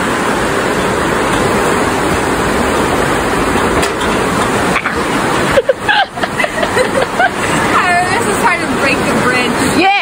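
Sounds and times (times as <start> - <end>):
water rushing under a metal footbridge: 0.0 - 10.0.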